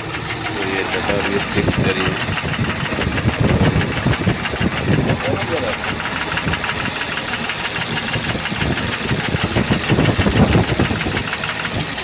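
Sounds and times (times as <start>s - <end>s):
diesel engine idling with knocking: 0.0s - 12.0s.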